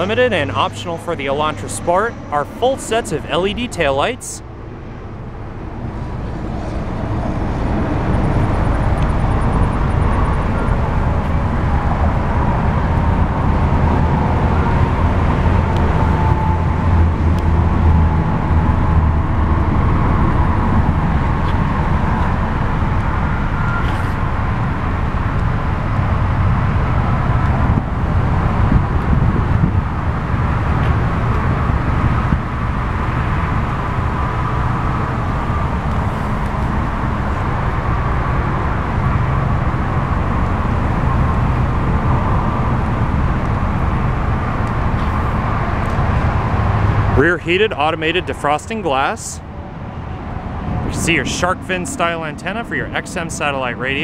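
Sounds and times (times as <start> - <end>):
motor vehicle rumble: 0.0 - 54.0.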